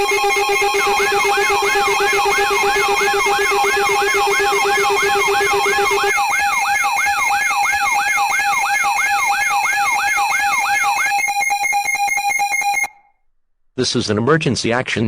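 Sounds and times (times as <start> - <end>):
pulsing electronic beep: 0.0 - 13.0
siren-like electronic wail: 0.0 - 13.0
steady high alarm tone: 0.0 - 13.1.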